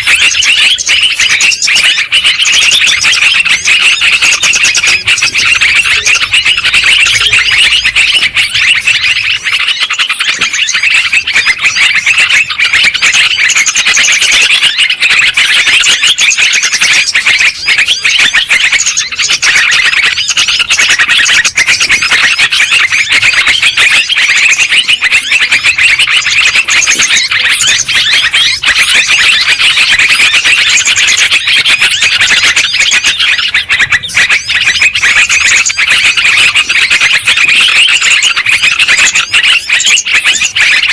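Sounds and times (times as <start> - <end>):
bulbuls chattering: 0.0 - 40.9.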